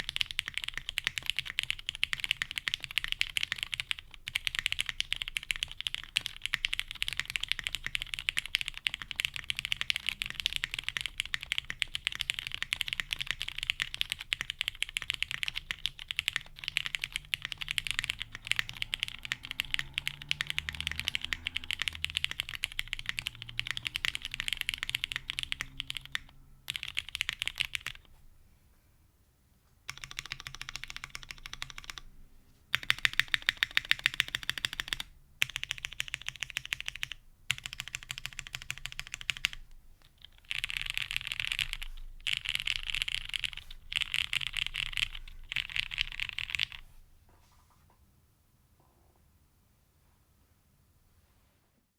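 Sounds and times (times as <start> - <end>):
mechanical keyboard typing: 0.0 - 28.1, 29.9 - 32.1, 32.7 - 46.8.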